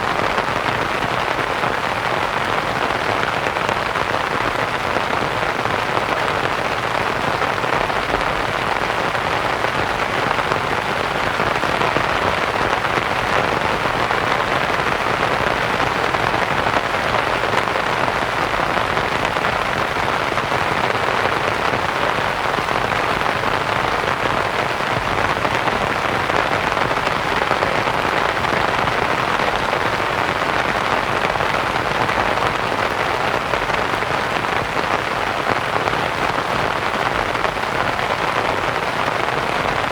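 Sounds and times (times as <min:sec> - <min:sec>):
rain on a canvas tent: 0:00.0 - 0:39.9.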